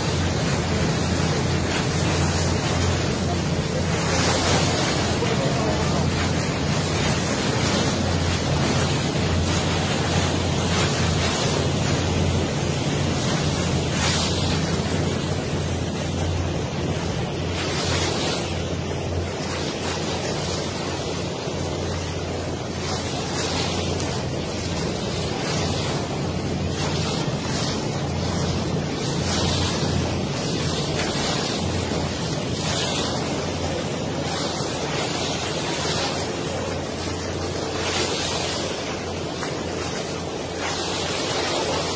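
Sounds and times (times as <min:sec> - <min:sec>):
boat engine hum: 0:00.0 - 0:41.9
water rushing past hull: 0:00.0 - 0:41.9.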